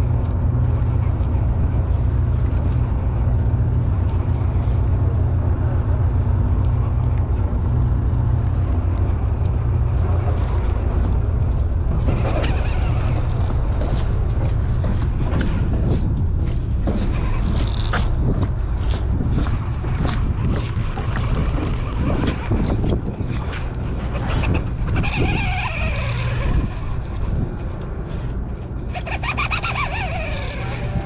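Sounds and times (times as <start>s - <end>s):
boat engine drone: 0.0s - 31.0s
wind noise on microphone: 0.0s - 31.0s.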